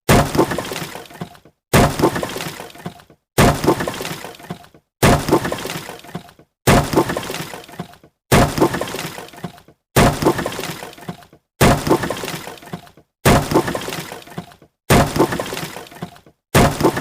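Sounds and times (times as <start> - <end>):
wood breaking with splintering: 0.1 - 17.0.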